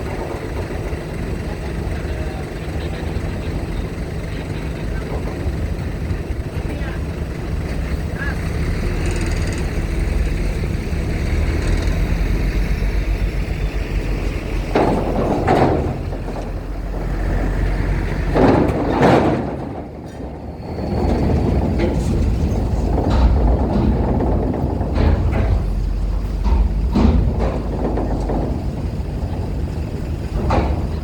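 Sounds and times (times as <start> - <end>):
heavy vehicle engines droning: 0.0 - 31.0.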